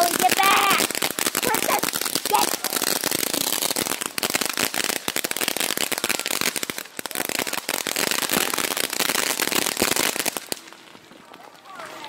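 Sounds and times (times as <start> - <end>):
firework crackling pops: 0.0 - 12.0.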